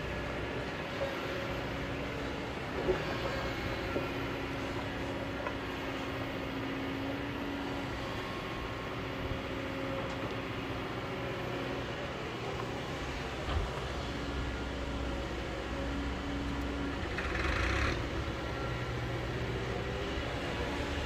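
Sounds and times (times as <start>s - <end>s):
excavator diesel engine running: 0.0s - 21.0s
steady hydraulic whine: 0.0s - 21.0s.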